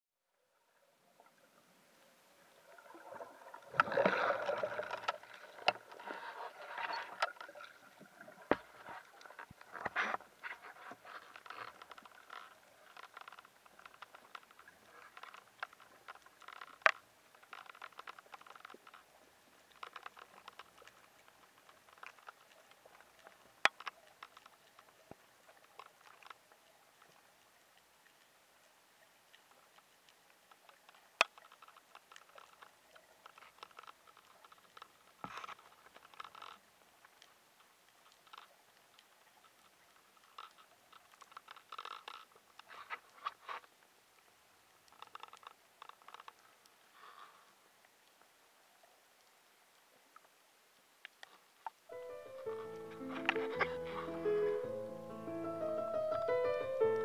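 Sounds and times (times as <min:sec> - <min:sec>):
underwater crackling and clicking: 0:01.0 - 0:57.0.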